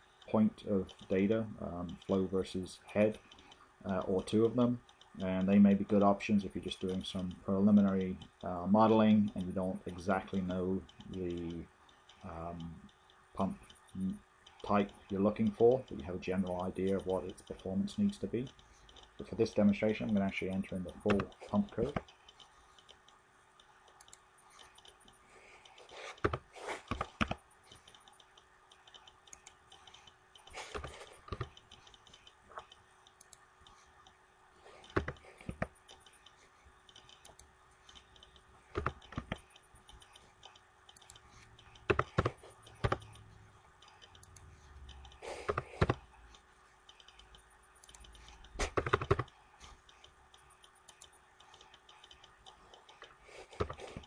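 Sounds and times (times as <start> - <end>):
faint steady hum: 0.0 - 54.0
computer keyboard typing: 1.9 - 23.1, 23.8 - 54.0.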